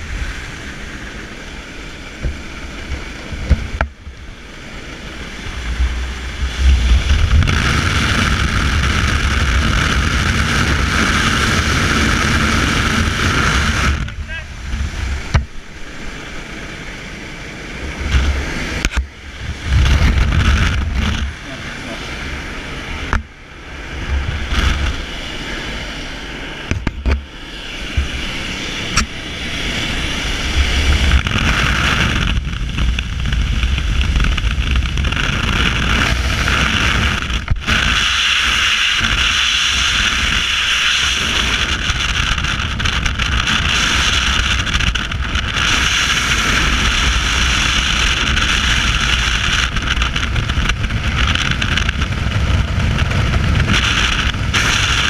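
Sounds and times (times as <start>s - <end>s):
aircraft engine noise: 0.0s - 55.0s
freefall wind rush: 0.0s - 55.0s
slipstream wind through open door: 0.0s - 55.0s.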